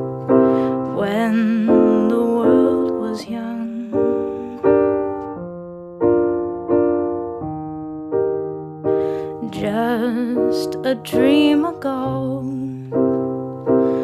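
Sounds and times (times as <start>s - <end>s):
keyboard chords: 0.0s - 14.0s.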